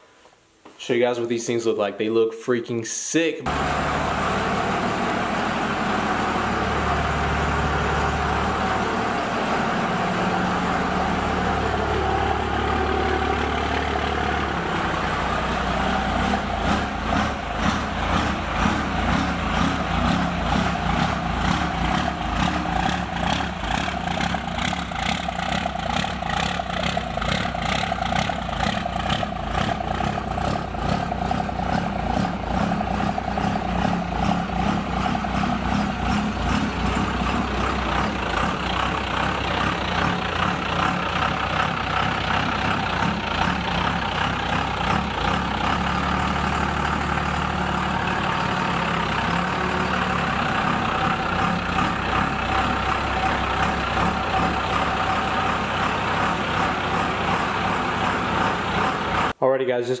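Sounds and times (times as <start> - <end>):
diesel engine idling: 3.5 - 59.4.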